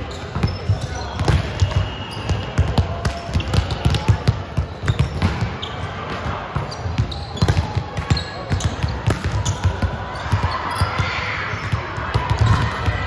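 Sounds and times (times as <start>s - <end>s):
basketballs bouncing: 0.0s - 13.0s
crowd chatter: 0.0s - 13.0s
sneaker squeaks: 0.0s - 13.0s.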